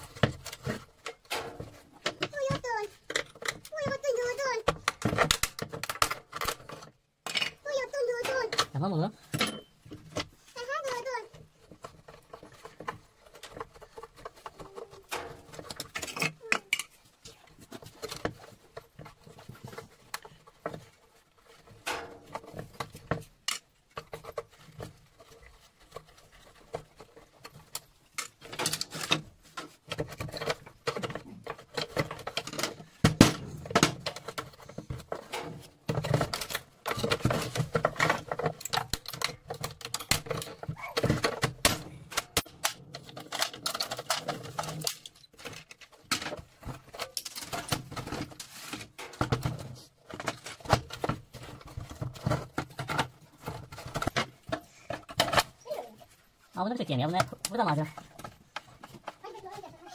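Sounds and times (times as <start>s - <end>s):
plastic pieces clattering: 0.0s - 59.9s.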